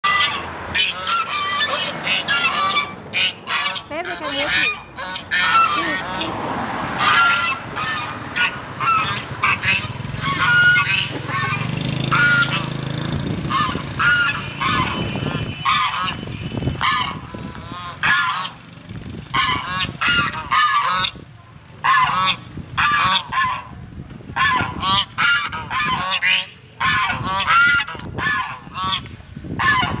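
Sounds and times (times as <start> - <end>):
geese honking: 0.0 - 12.7, 13.5 - 18.6, 19.3 - 21.2, 21.8 - 23.8, 24.4 - 30.0.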